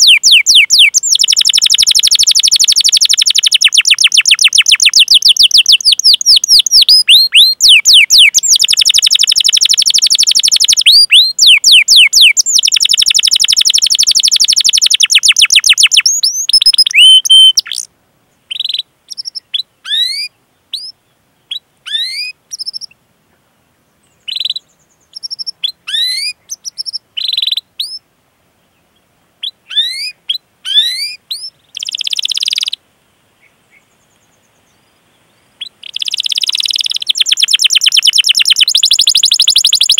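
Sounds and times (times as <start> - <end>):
canary chirps and whistles: 0.0 - 17.9, 18.5 - 23.0, 24.3 - 28.0, 29.4 - 32.8, 35.6 - 39.9.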